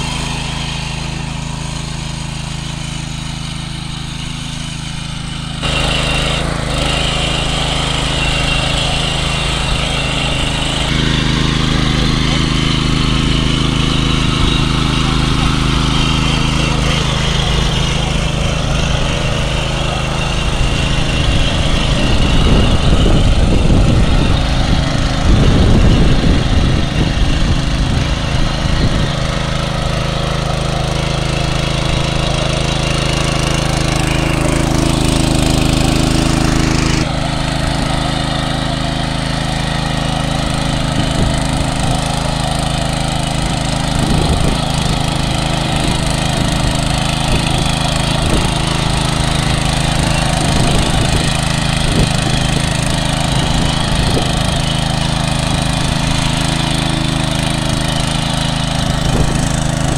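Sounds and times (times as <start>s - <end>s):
tiller engine running: 0.0s - 59.9s
tines churning soil: 0.0s - 59.9s.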